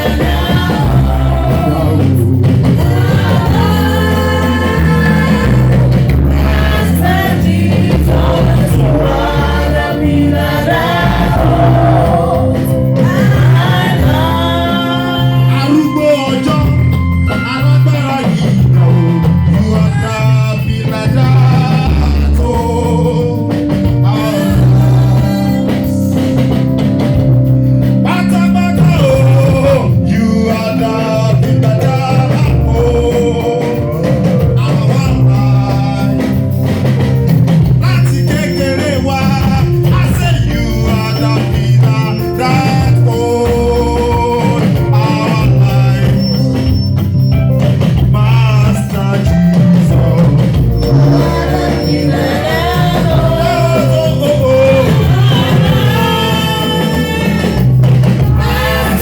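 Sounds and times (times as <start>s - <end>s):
people singing: 0.0s - 27.2s, 28.0s - 59.0s
live band playing: 0.0s - 59.0s.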